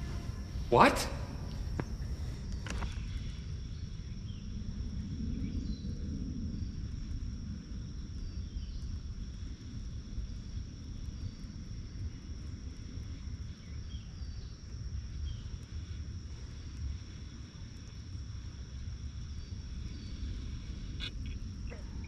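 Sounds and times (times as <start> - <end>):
high insect drone: 0.0 - 22.0
low steady rumble: 0.0 - 22.0.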